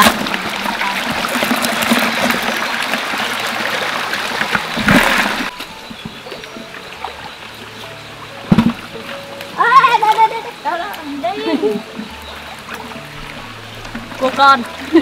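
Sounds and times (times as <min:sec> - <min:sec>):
rush of water: 0:00.0 - 0:15.0
stream water running over rocks: 0:00.0 - 0:15.0.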